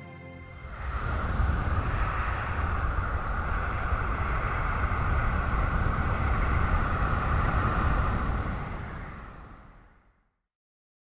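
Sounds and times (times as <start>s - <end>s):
steady rushing noise with rumble: 0.6s - 10.3s.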